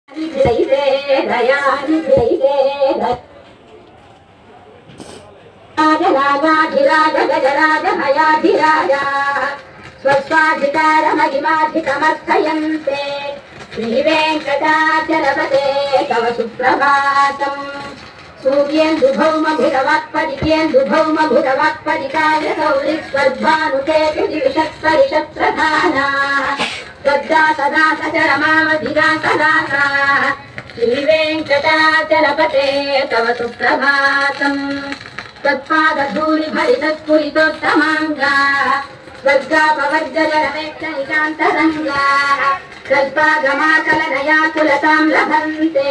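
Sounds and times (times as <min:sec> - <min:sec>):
high voice singing on record: 0:00.1 - 0:03.2, 0:05.8 - 0:45.9.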